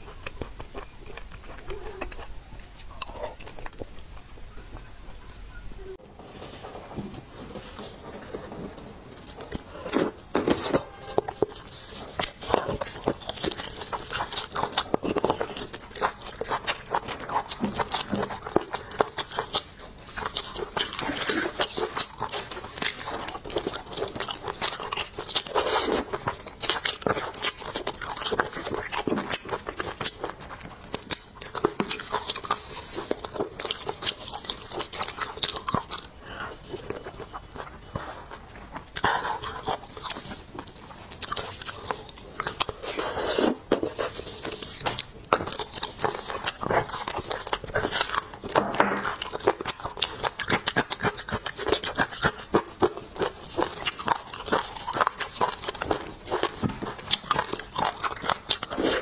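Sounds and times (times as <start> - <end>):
wet chewing of meat and marrow: 0.0 - 59.0.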